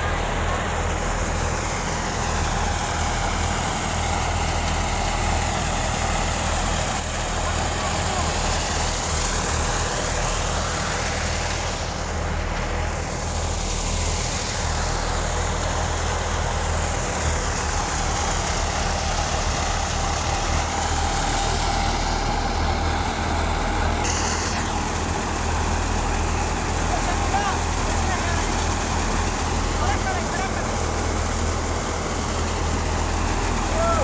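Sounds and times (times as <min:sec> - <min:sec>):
diesel tractor engine humming: 0:00.0 - 0:34.0
thresher drum and blower rushing: 0:00.0 - 0:34.0.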